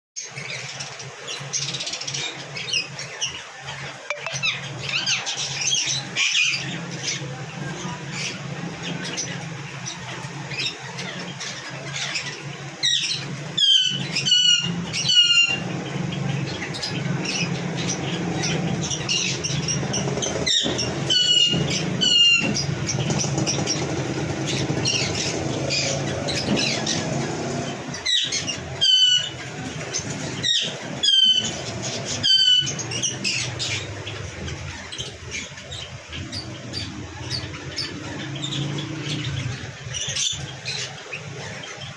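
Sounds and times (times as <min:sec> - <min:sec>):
parrots screeching: 0:08.1 - 0:41.9.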